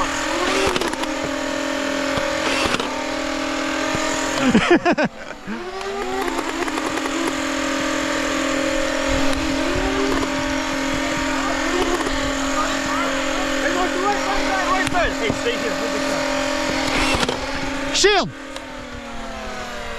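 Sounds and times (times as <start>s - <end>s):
blaster flywheel motors whining: 0.0s - 19.9s.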